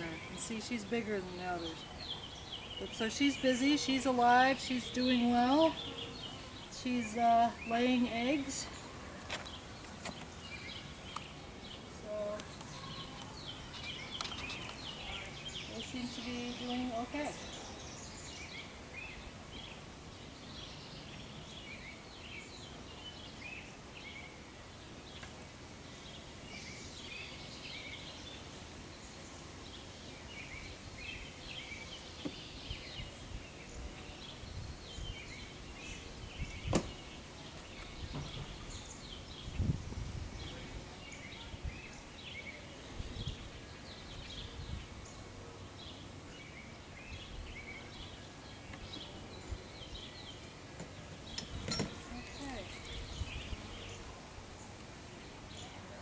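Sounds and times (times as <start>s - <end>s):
outdoor background noise: 0.0s - 56.0s
small birds chirping: 0.0s - 56.0s.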